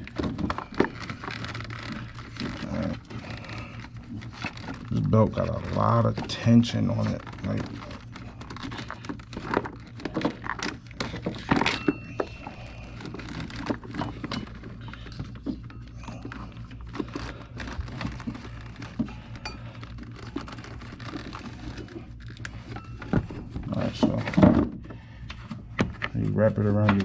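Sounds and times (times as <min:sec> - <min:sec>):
hands working a belt on pulleys: 0:00.0 - 0:24.7
steady low hum: 0:00.0 - 0:27.0.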